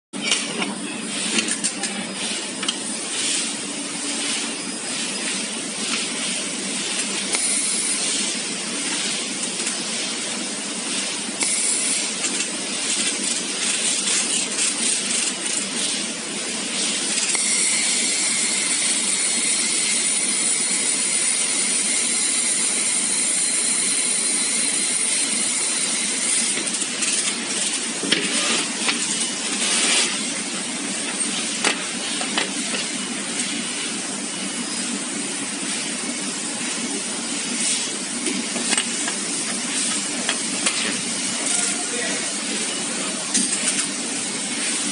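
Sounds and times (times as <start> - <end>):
constant machine noise: 0.2 - 44.9
laser welder hiss: 2.2 - 44.9.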